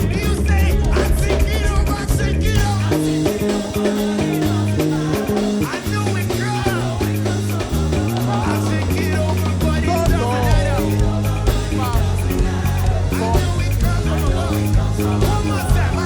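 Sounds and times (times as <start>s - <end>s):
bass guitar line: 0.0s - 16.0s
drums keeping beat: 0.0s - 16.0s
voices singing: 0.0s - 16.0s.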